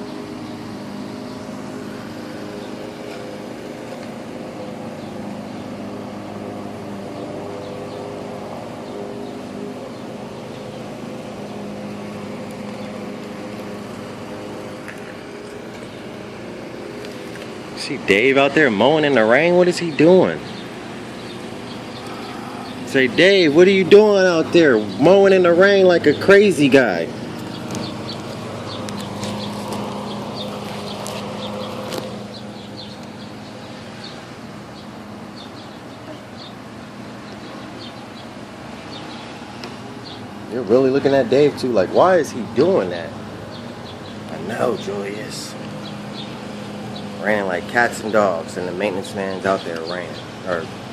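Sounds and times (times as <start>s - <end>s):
lawn mower engine running: 0.0s - 50.9s.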